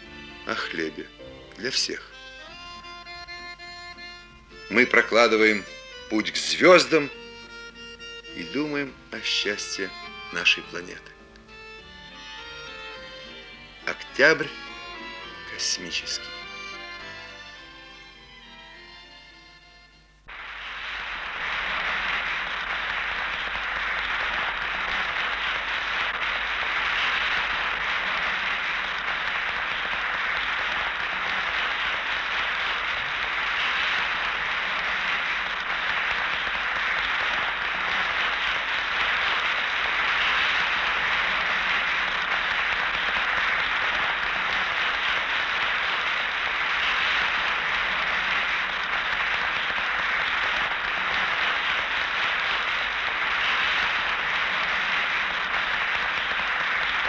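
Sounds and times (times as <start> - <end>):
large crowd applauding: 0.0 - 2.9, 4.6 - 7.2, 8.3 - 11.1, 12.1 - 18.7, 20.2 - 57.0.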